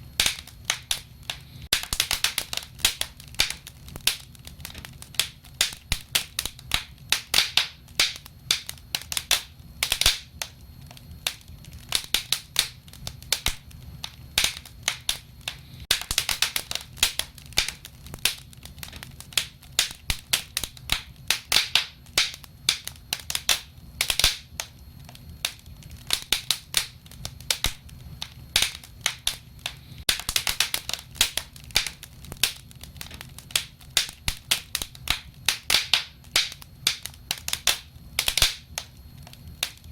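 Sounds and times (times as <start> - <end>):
fire popping: 0.0 - 39.9
low rumble of flames: 0.0 - 39.9.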